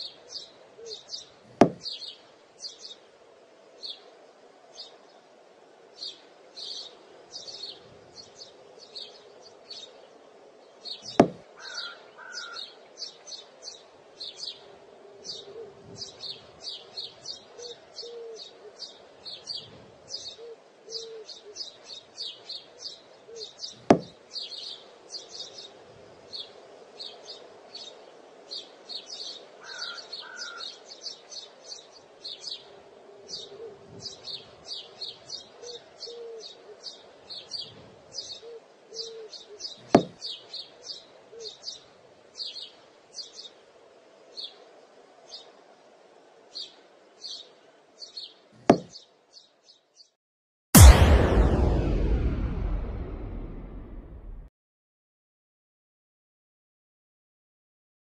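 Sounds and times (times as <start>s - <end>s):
small birds chirping: 0.0s - 5.3s, 5.9s - 45.6s, 46.4s - 50.2s.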